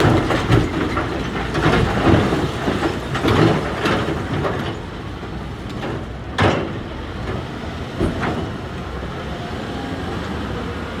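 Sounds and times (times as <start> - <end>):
heavy machinery rumbling: 0.0 - 9.2.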